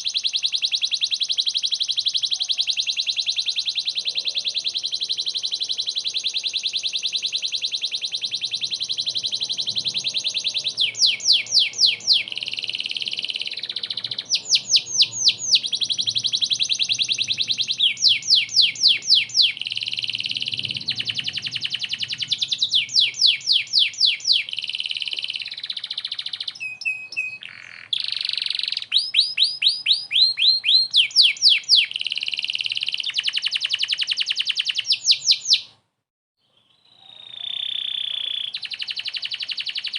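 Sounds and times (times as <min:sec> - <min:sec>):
canary singing trills: 0:00.0 - 0:35.7, 0:36.4 - 0:39.9.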